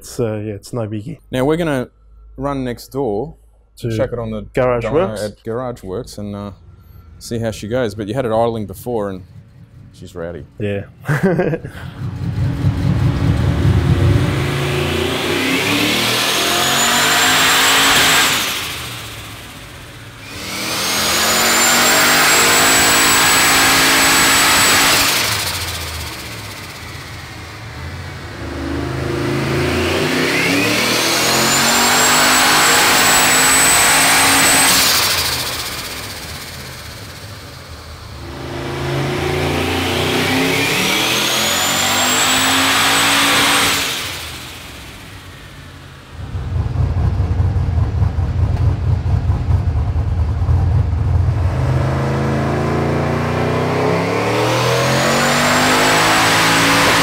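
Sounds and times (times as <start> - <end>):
high turbo whine: 4.8 - 57.0
turbo engine full-throttle pulls: 5.9 - 57.0.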